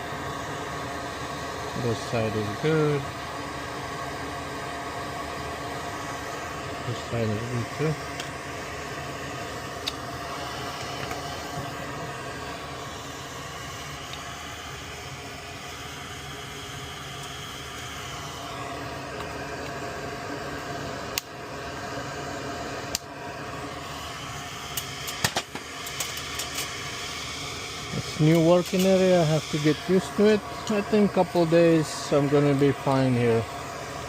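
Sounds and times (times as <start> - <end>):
fan whirring hum: 0.0 - 34.0.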